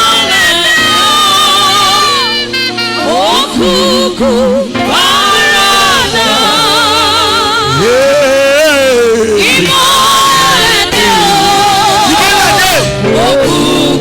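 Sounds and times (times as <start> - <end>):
gospel singing: 0.0 - 14.0
musical accompaniment: 0.0 - 14.0.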